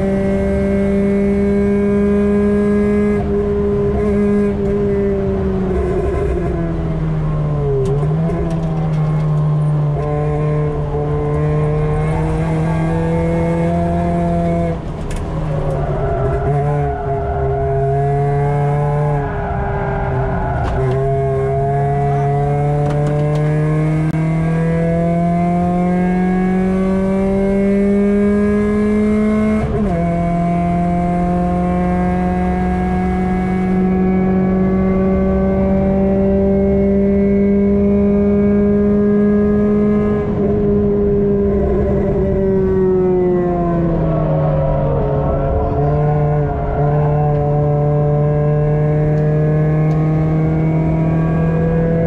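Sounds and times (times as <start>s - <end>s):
car engine under hard driving: 0.0s - 52.0s.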